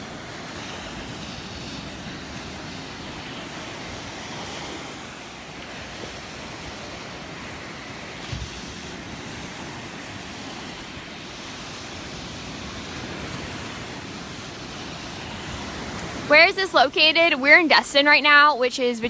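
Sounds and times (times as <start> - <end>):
wind buffeting microphone: 0.0 - 18.4
waves breaking on sandy shore: 0.0 - 19.0.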